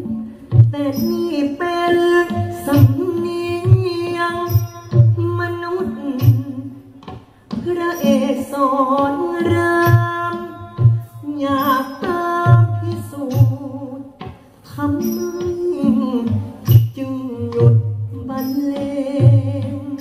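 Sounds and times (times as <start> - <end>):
musical accompaniment with beat: 0.0 - 20.0.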